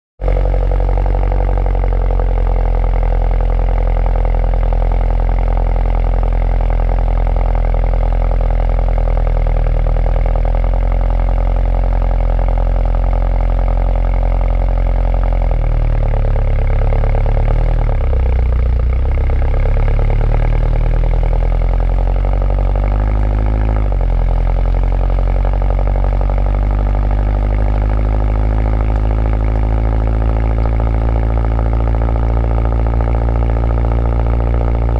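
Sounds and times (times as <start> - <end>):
car engine running: 0.2 - 34.9.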